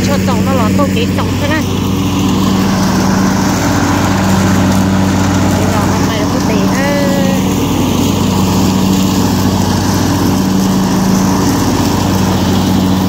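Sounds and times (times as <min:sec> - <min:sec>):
mower engine running: 0:00.0 - 0:13.0.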